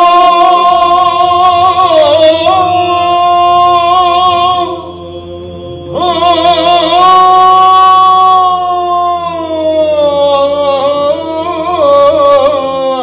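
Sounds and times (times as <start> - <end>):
low vocal drone: 0.0 - 13.0
men singing chant: 0.0 - 13.0.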